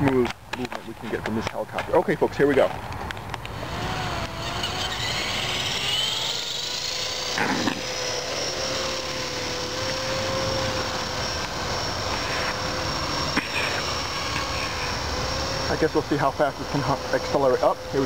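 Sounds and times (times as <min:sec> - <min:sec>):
rc helicopter motor whine: 0:02.7 - 0:18.0.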